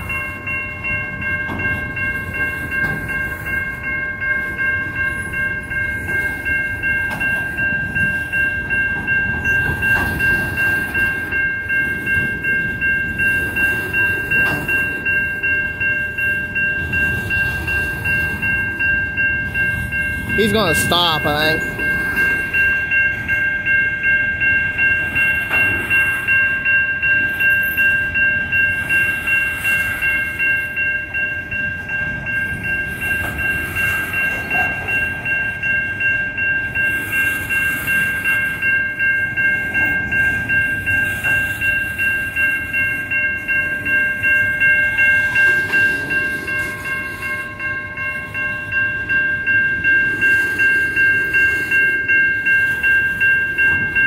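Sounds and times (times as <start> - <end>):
electronic crossing bell ringing: 0.0 - 54.0
rail cars rumbling and rattling: 0.0 - 54.0.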